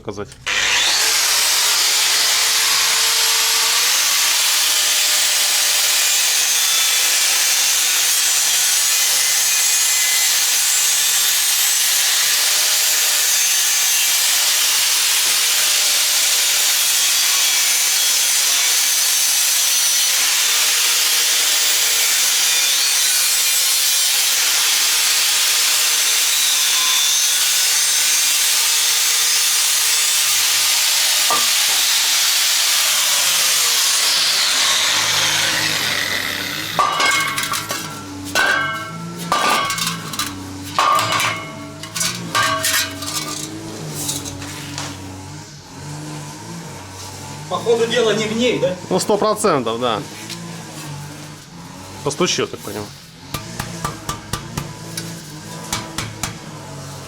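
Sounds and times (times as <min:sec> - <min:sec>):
angle grinder cutting metal: 0:00.3 - 0:57.0.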